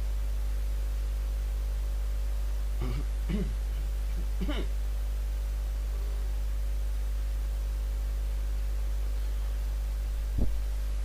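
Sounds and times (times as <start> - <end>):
electrical mains hum with hiss: 0.0 - 11.0.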